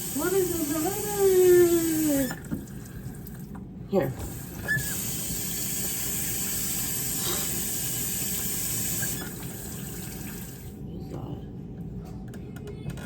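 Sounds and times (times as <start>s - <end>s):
faucet running into sink: 0.0s - 10.8s.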